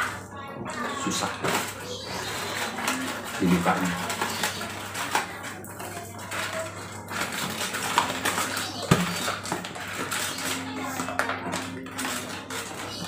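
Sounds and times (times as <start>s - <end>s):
plastic bag crinkling: 0.7s - 13.0s.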